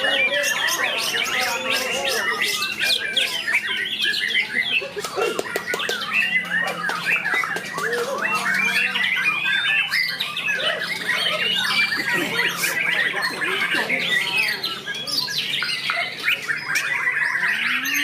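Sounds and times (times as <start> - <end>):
songbirds singing and chattering: 0.0 - 18.0.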